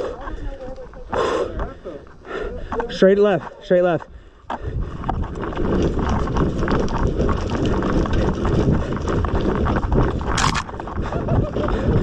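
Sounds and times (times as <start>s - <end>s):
running footsteps: 0.6s - 12.0s.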